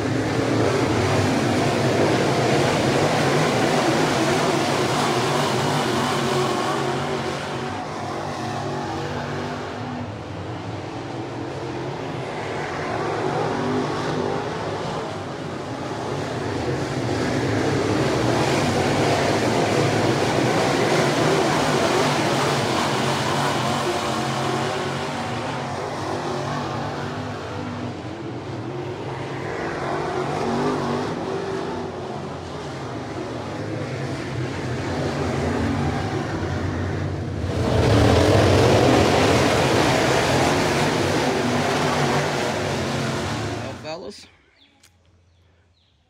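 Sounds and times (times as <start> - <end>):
race car engines passing: 0.0 - 44.2.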